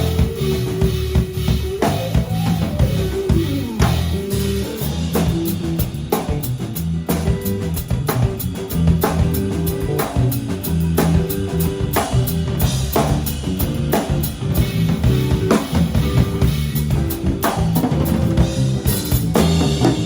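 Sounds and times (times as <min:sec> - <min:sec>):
live rock trio playing: 0:00.0 - 0:20.0
steady bass line: 0:00.0 - 0:20.0.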